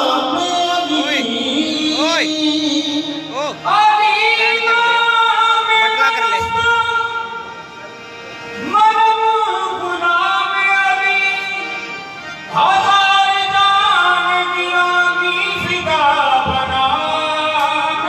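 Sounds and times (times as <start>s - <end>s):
harmoniums: 0.0s - 18.0s.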